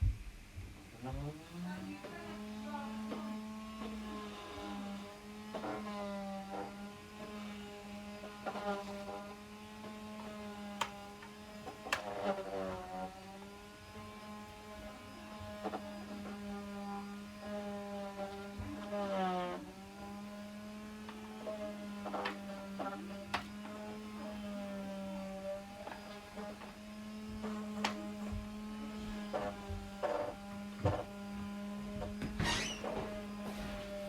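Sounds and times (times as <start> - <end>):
electric sander humming: 0.6 - 34.0.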